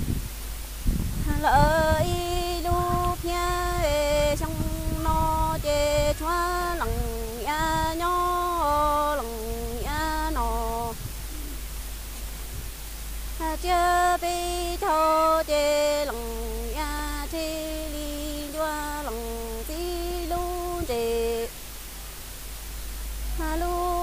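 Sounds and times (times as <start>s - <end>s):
woman singing unaccompanied: 1.1s - 11.6s, 13.3s - 21.6s, 23.3s - 24.0s.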